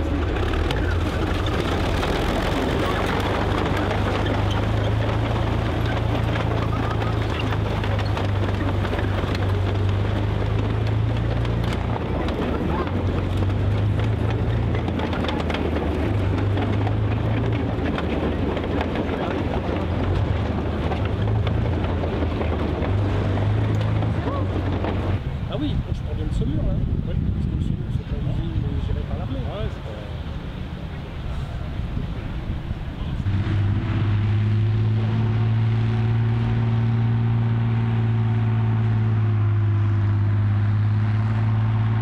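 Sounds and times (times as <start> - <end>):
tank engine droning: 0.0 - 42.0.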